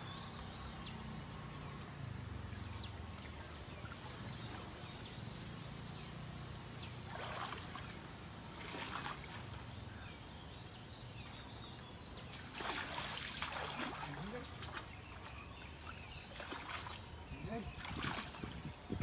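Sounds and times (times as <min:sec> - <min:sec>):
river water splashing: 0:00.1 - 0:19.0.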